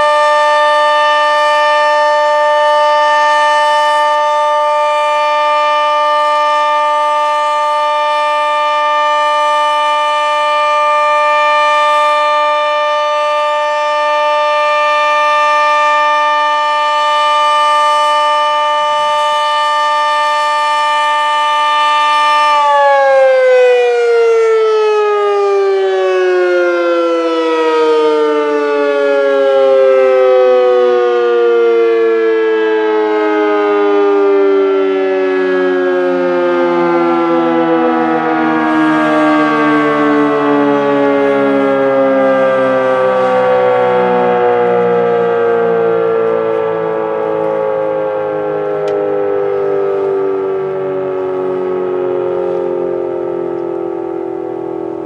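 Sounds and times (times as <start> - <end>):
outdoor warning siren: 0.0 - 55.0.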